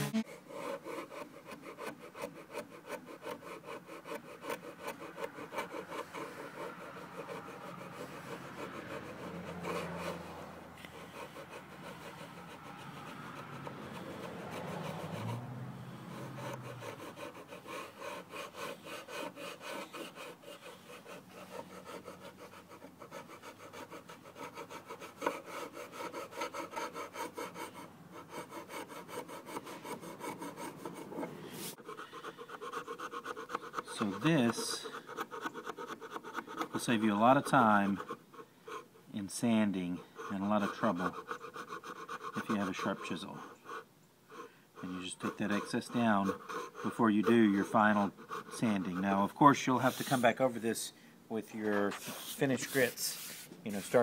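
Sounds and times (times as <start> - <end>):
chisel scraping glue off wood: 0.2 - 15.4, 16.0 - 50.6.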